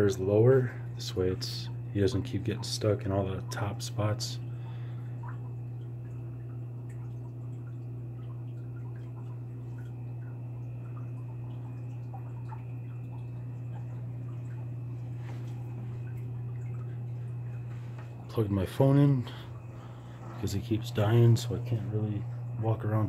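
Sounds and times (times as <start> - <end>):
steady low hum: 0.0 - 23.0
water trickling and dripping: 0.0 - 23.0.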